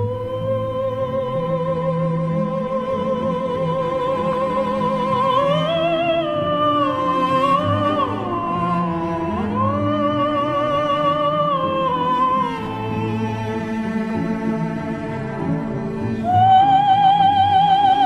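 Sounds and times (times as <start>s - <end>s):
low orchestral accompaniment: 0.0s - 18.0s
operatic singing with vibrato: 0.0s - 18.0s.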